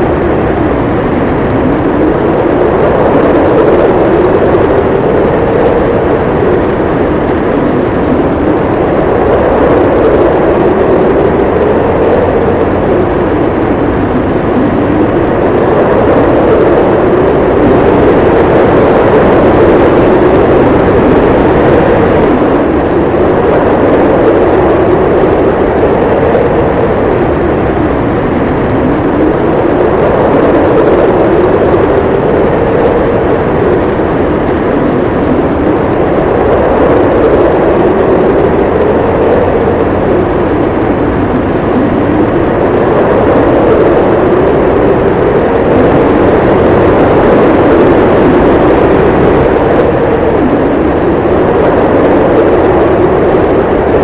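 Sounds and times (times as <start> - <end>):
blizzard wind howling: 0.0 - 54.0.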